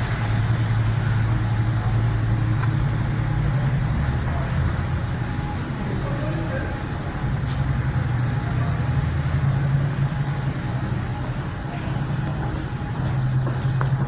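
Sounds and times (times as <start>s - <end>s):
road traffic rumble: 0.0s - 14.0s
vehicle engine drone: 0.0s - 14.0s.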